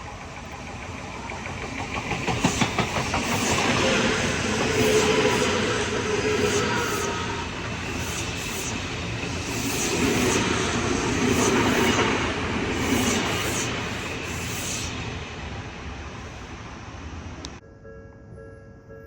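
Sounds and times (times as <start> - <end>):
train wheels clicking over rail joints: 0.0 - 15.7
electric train rumbling past: 0.0 - 17.6.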